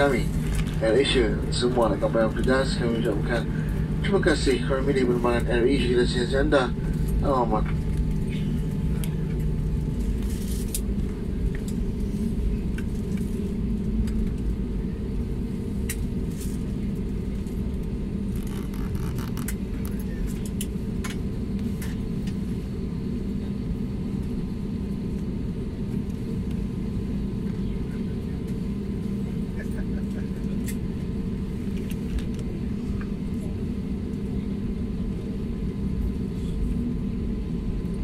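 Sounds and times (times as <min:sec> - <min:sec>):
airliner cabin rumble: 0:00.0 - 0:38.0.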